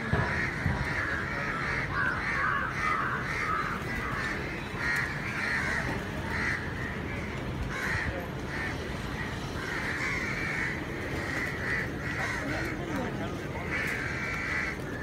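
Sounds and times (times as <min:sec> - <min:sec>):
city traffic hum: 0:00.0 - 0:15.0
crows cawing: 0:00.0 - 0:15.0.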